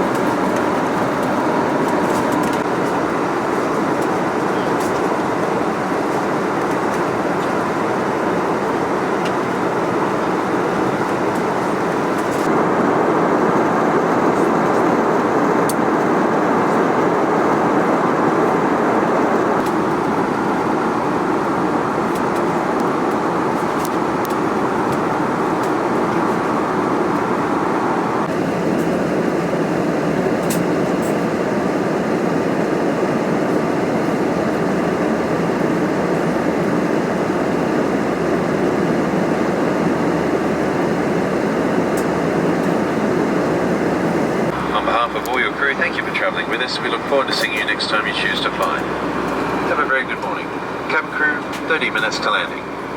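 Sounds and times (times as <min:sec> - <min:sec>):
airplane cabin noise: 0:00.0 - 0:52.9.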